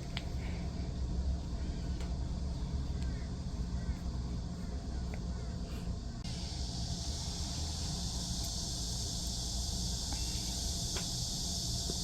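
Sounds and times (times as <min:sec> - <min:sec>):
high-pitched insect chorus: 0:00.0 - 0:12.0
low steady rumble: 0:00.0 - 0:12.0.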